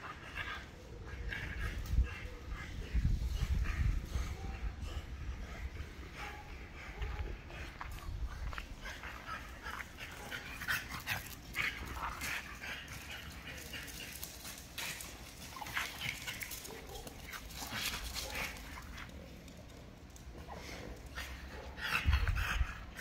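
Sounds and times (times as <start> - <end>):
dogs playing: 0.0 - 23.0.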